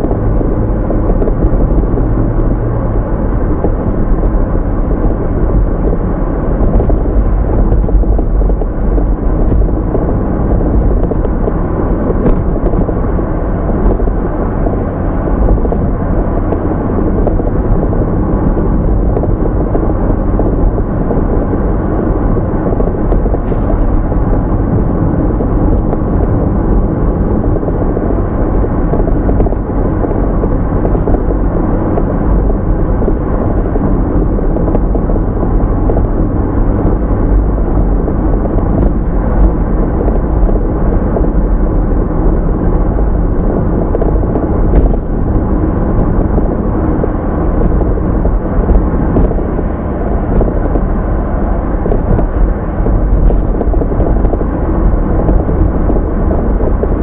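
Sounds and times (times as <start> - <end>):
car engine: 0.0 - 57.0
road and tyre rumble: 0.0 - 57.0
wind noise: 0.0 - 57.0.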